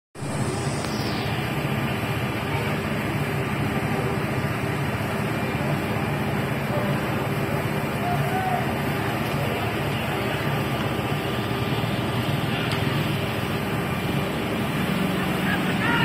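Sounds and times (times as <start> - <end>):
street noise: 0.2 - 16.0
vehicle engine humming: 0.2 - 16.0.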